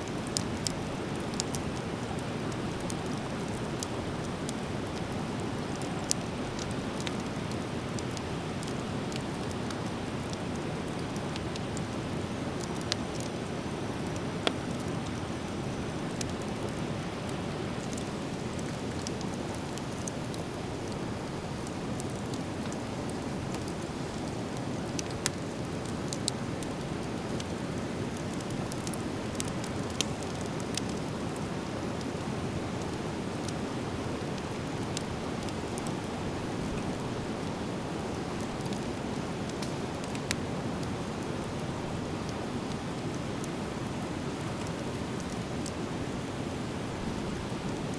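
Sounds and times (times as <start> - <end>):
driftwood fire crackling: 0.0 - 47.9.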